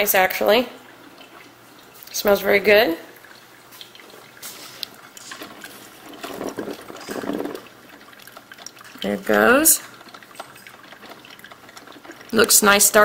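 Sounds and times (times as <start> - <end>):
coffee maker water gurgling: 0.0 - 13.0.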